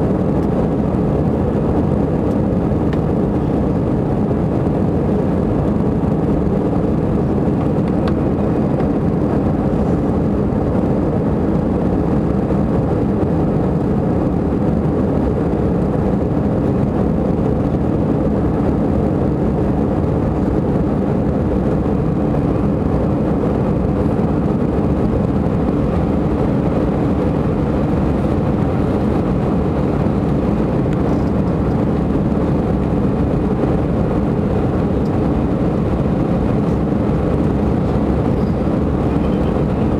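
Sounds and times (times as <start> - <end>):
jet airliner engines at takeoff: 0.0 - 39.9.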